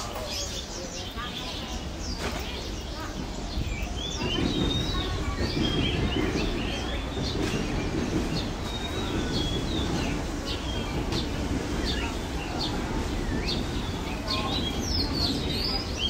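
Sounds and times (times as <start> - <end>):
songbirds chirping and whistling: 0.0 - 16.0.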